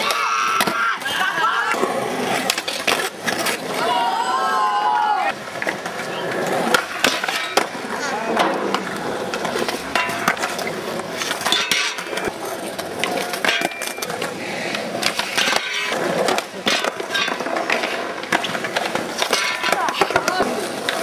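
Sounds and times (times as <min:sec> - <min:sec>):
skateboard sliding on metal rail: 0:00.0 - 0:21.0
skateboards popping and landing: 0:00.0 - 0:21.0
skateboards rolling on concrete: 0:00.0 - 0:21.0.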